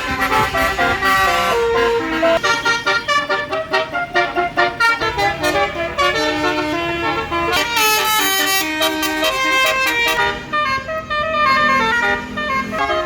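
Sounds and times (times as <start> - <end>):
bus horn playing a melody: 0.0 - 13.0.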